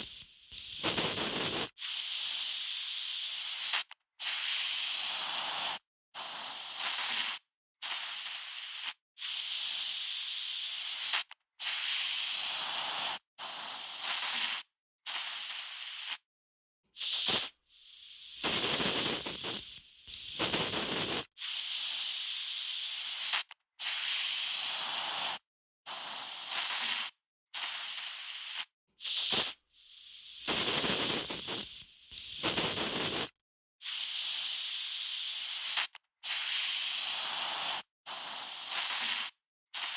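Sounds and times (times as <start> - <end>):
aerosol spray can hissing: 0.0 - 16.2, 17.0 - 39.9.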